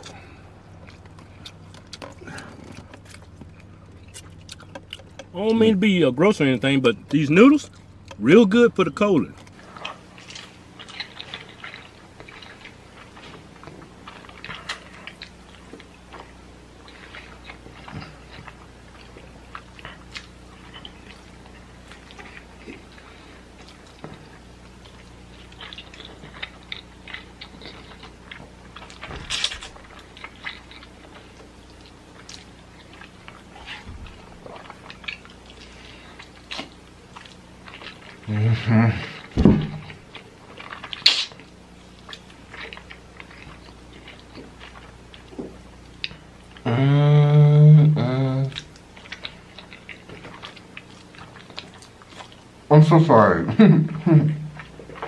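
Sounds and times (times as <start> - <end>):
person chewing noodles: 0.0 - 8.2, 9.3 - 52.7, 53.8 - 55.0
faint low hum: 0.0 - 55.0.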